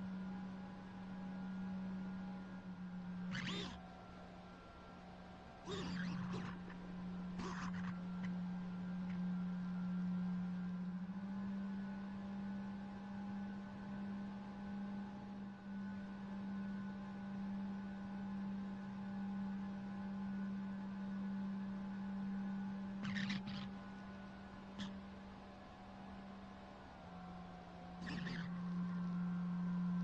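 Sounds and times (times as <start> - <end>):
propeller aircraft engine drone: 0.0 - 30.0.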